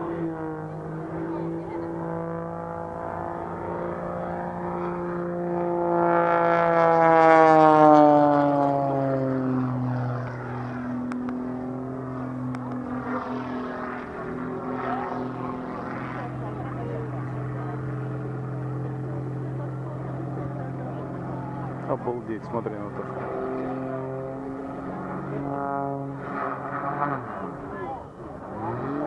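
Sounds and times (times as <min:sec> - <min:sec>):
propeller plane engine passing: 0:00.0 - 0:29.0.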